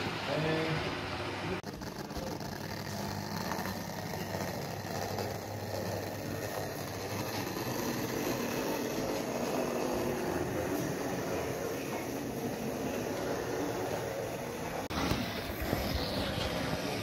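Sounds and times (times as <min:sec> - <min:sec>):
model train humming: 0:00.0 - 0:17.0.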